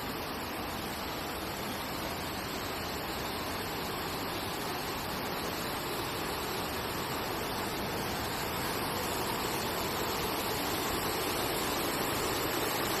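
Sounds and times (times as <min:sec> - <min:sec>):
water pouring down waterfall: 0:00.0 - 0:13.0.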